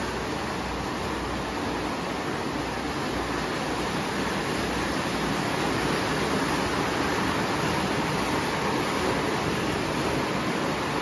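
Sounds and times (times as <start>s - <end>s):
toy train running on metal track: 1.9s - 11.0s.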